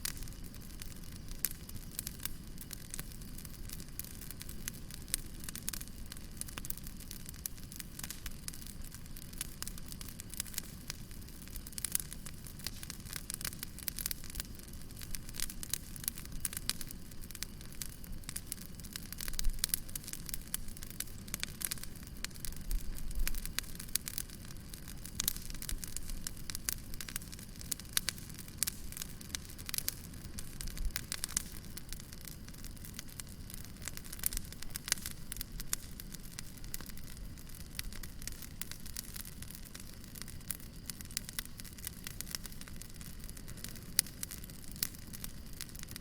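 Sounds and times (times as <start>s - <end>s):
low hiss of flames: 0.0s - 46.0s
wood fire crackling: 0.0s - 46.0s.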